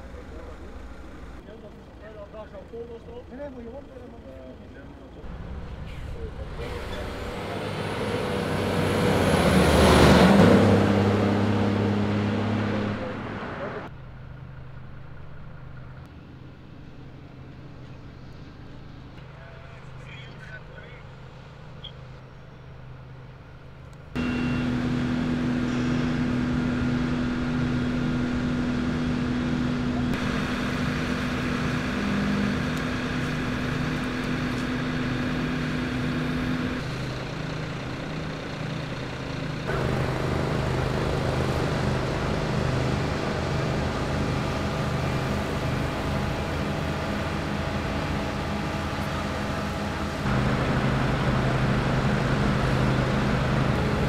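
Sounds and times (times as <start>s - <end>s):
fire truck engines droning: 0.0s - 54.0s.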